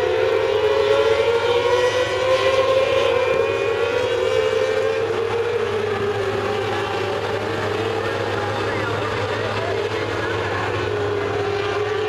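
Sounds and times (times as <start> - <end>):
race car engines at high revs: 0.0 - 12.0.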